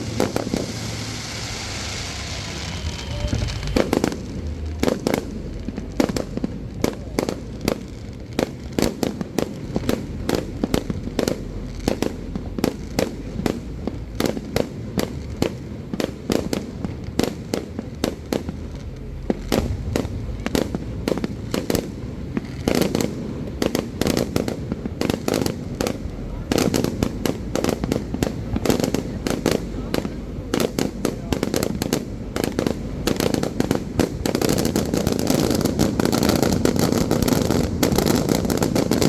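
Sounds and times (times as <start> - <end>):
fireworks bangs and pops: 0.0 - 39.0.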